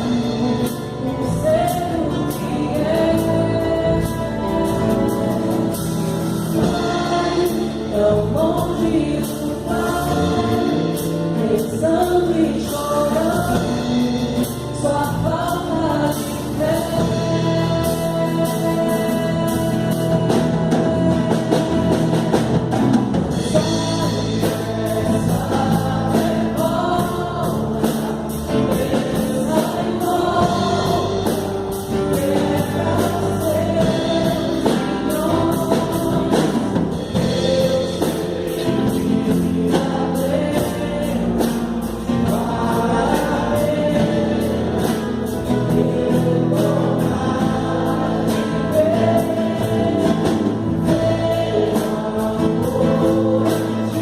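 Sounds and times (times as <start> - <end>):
acoustic guitars: 0.0 - 54.0
group singing: 0.0 - 54.0.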